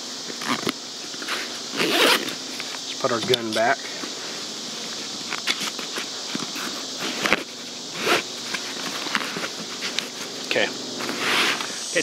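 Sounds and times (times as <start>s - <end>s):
high buzz of insects: 0.0s - 12.0s.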